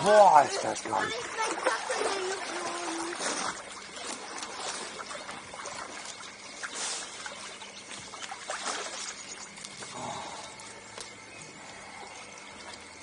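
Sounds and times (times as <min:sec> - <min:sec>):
light water splashes: 0:00.0 - 0:13.0
pool water trickling and lapping: 0:00.0 - 0:13.0.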